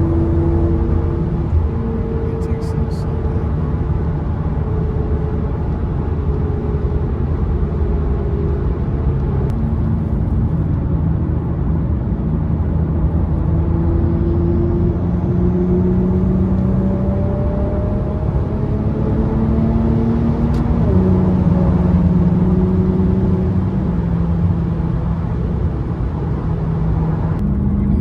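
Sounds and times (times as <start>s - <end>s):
car engine accelerating: 0.0s - 28.0s
road rumble: 0.0s - 28.0s.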